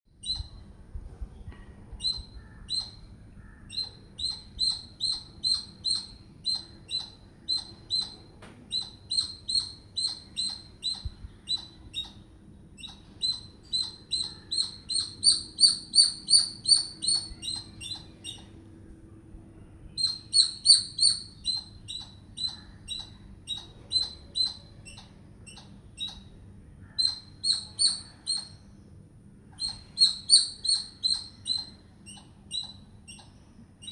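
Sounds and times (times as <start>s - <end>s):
squirrel chirping: 0.1s - 0.6s, 2.0s - 18.7s, 20.0s - 28.8s, 29.5s - 33.9s.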